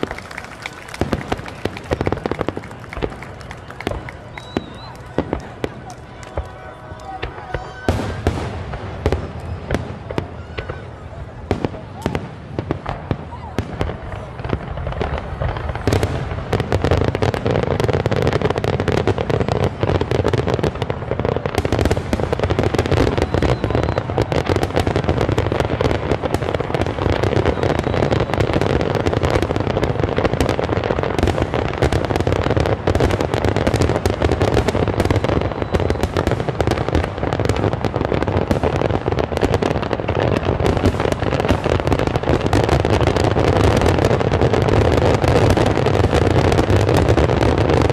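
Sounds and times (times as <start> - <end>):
fireworks bursting with bangs and crackles: 0.0 - 47.9.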